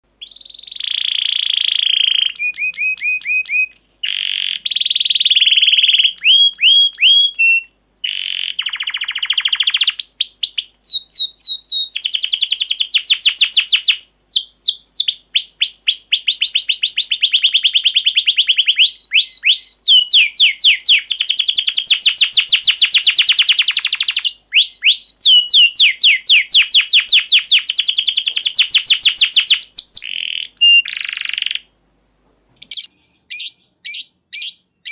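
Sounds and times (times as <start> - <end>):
canary singing trills: 0.2 - 31.7, 32.6 - 34.9.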